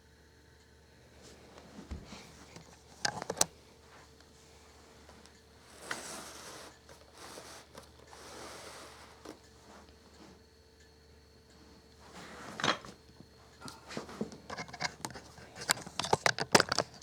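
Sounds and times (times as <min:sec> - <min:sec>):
rustling and scraping: 0:01.2 - 0:10.5, 0:11.5 - 0:17.0.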